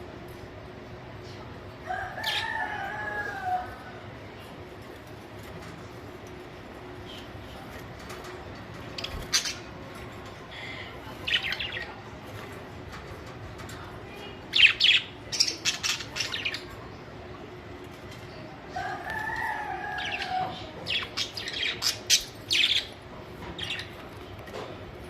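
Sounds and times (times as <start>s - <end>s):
soft warbling chatter: 0.0s - 25.0s.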